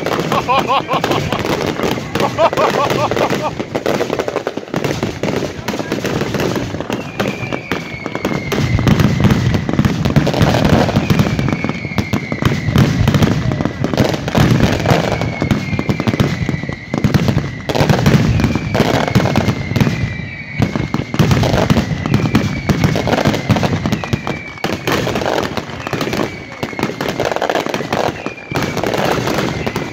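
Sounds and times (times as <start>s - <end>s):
falling whistle: 0.0s - 3.8s, 6.8s - 9.8s, 10.4s - 14.0s, 14.6s - 29.9s
firecrackers crackling: 0.0s - 29.9s
fireworks booming: 0.0s - 29.9s.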